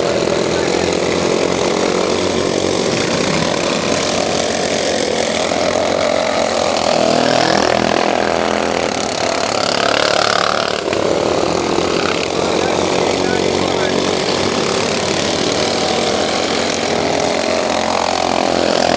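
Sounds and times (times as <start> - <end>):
lawn mower engines revving: 0.0 - 18.9.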